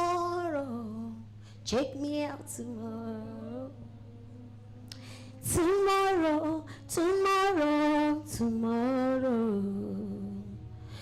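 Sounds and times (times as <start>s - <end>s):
woman singing wordless melody: 0.0s - 11.0s.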